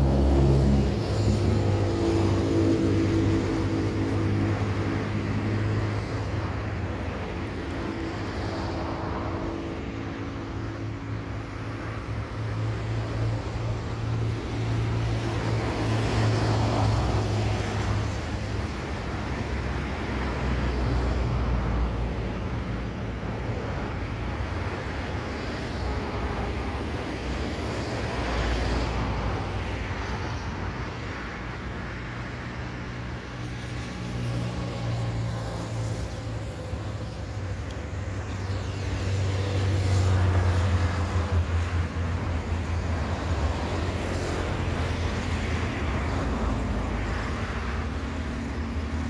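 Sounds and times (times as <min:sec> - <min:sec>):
cars passing: 0:00.0 - 0:49.0.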